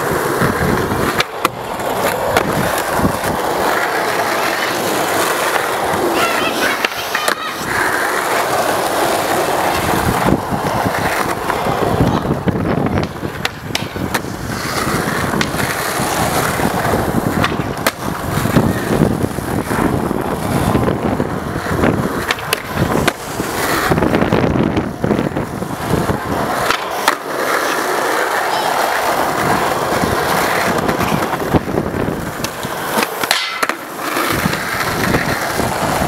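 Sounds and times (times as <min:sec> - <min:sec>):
skateboard clacking on ground: 0:00.0 - 0:36.0
skateboard wheels rolling on asphalt: 0:00.0 - 0:36.0.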